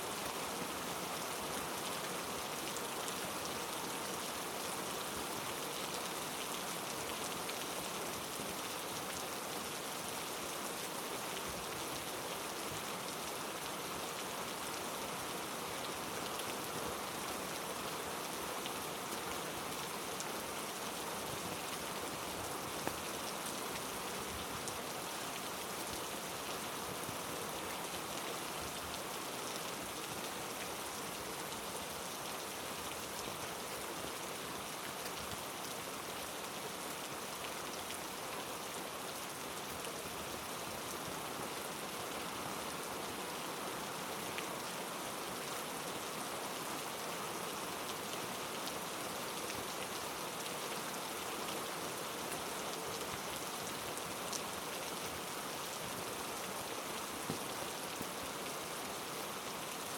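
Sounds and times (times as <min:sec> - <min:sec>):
heavy rain on foliage: 0:00.0 - 0:59.9.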